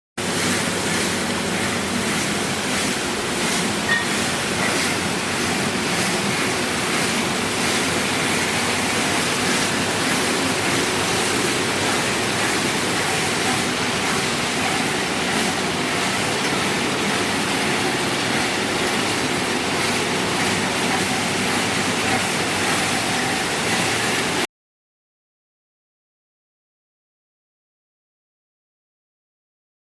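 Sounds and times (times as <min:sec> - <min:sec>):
crate washing machine spraying water: 0:00.2 - 0:24.5.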